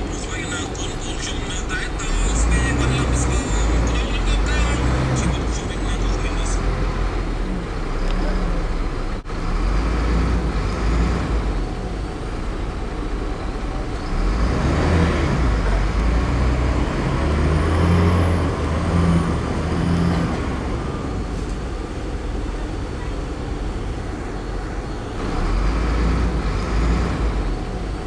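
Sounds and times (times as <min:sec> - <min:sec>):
heavy diesel engines rumbling: 0:00.0 - 0:28.0.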